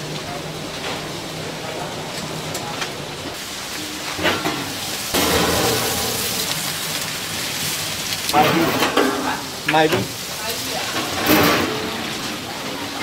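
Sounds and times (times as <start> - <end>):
pork frying sizzle: 0.0 - 13.0.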